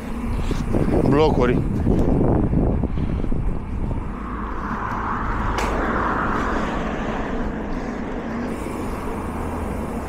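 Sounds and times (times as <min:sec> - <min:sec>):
passing road vehicle: 0:00.0 - 0:10.0
steady low rumble: 0:00.0 - 0:10.0.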